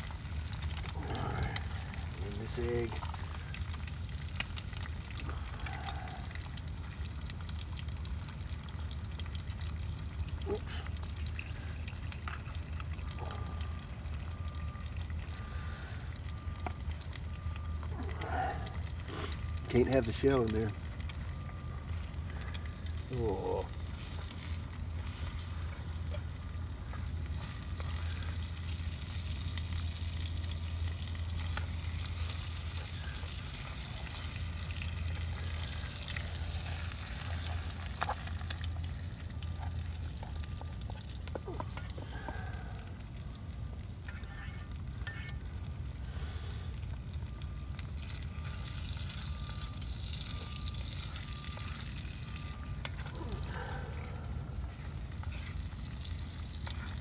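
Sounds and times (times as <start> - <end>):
eggs and bacon sizzling in a pan: 0.0 - 57.0.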